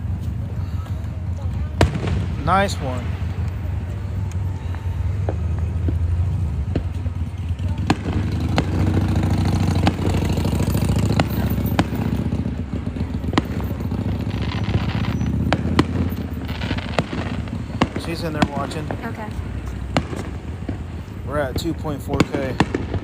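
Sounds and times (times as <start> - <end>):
fireworks bangs: 0.0 - 23.0
steady low rumble: 0.0 - 23.0.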